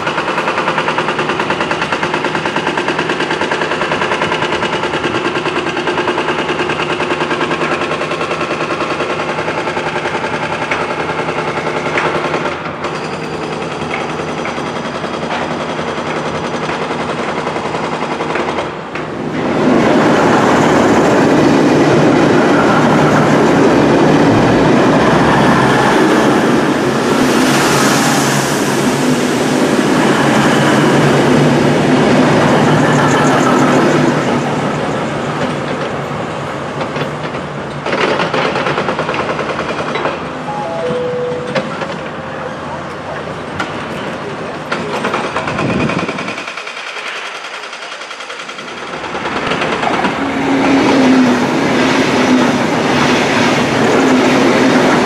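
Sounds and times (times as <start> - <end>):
diesel railcar engine drone: 0.0 - 55.0
train carriages passing: 0.0 - 55.0.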